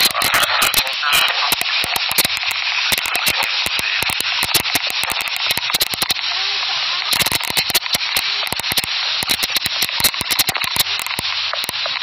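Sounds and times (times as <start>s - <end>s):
dense crackling clicks: 0.0s - 12.0s
steady hiss: 0.0s - 12.0s.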